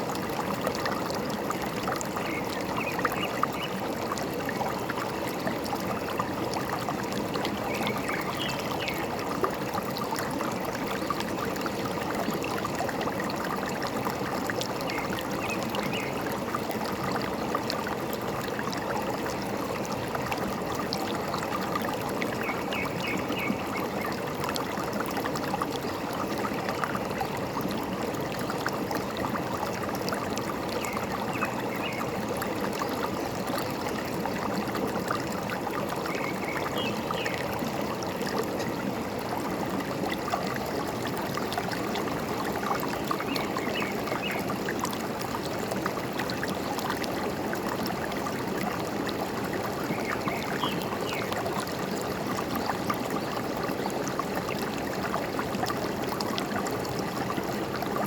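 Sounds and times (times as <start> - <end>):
stream gurgling: 0.0 - 58.0.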